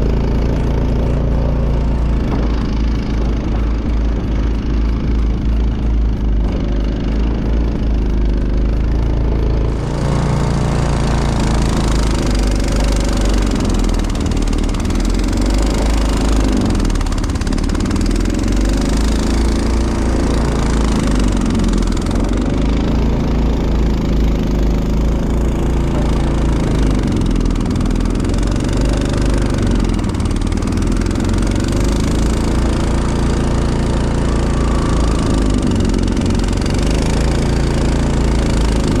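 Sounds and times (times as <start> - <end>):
snowblower engine running: 0.0 - 39.0.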